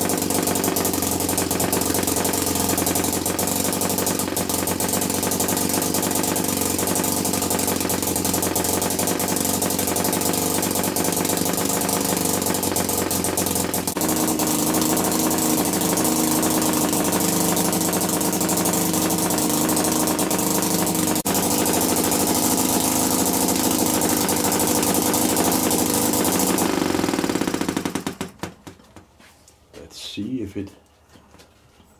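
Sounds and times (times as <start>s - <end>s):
model engine running: 0.0s - 28.5s.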